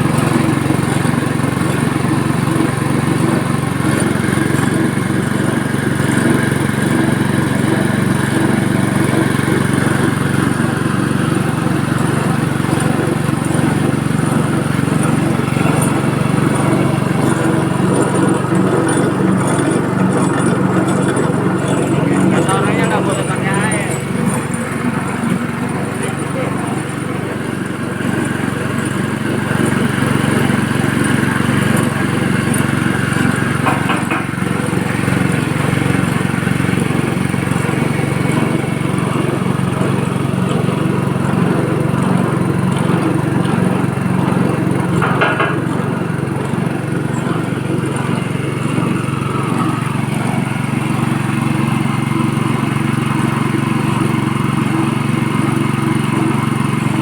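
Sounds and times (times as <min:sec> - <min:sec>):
press machine droning: 0:00.0 - 0:57.0.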